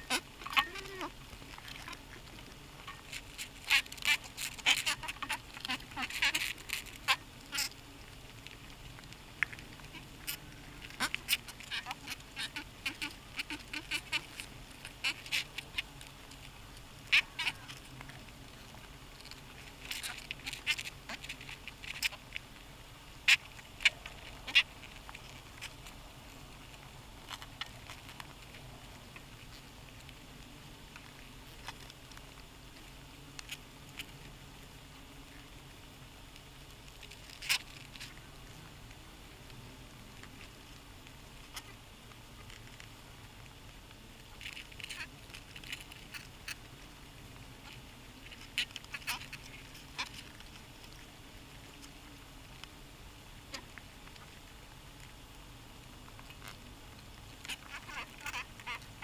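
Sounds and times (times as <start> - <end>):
bees clicking and crackling: 0.0 - 55.0
faint low hum: 0.0 - 59.0.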